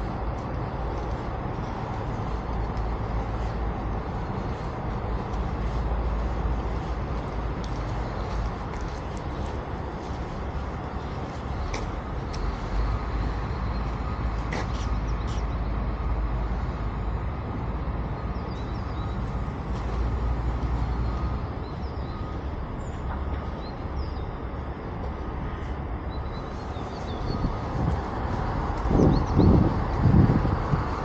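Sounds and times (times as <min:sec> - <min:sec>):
rumble of passing vehicles: 0:00.0 - 0:31.0.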